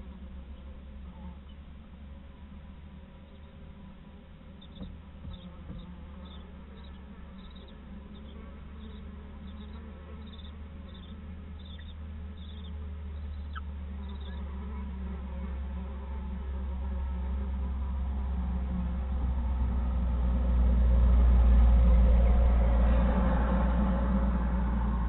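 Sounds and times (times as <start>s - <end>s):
low buzzing hum: 0.0s - 25.0s.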